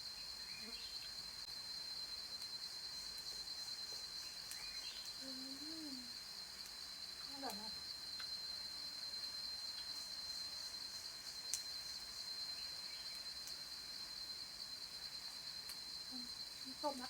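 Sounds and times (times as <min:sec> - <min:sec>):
cicadas singing: 0:00.0 - 0:17.0.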